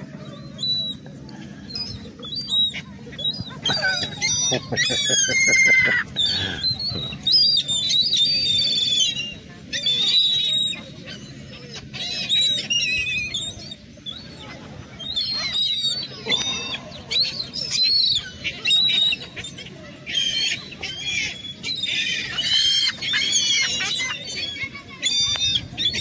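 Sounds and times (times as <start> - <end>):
gulls calling: 0.0 - 26.0.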